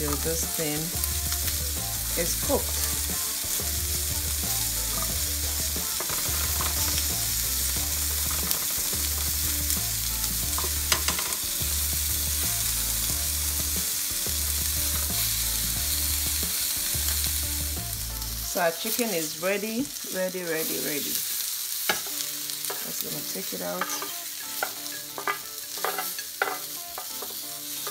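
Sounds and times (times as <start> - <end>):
chicken sizzling on a grill: 0.0 - 27.9.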